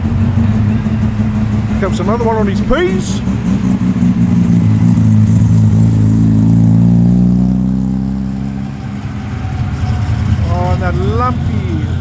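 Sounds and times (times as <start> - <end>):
car driving past: 0.0 - 12.0.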